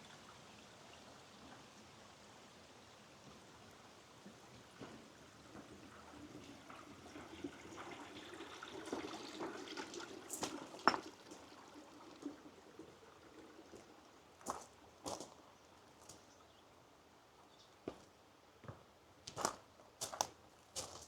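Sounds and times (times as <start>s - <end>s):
stream water trickling: 0.0s - 17.9s.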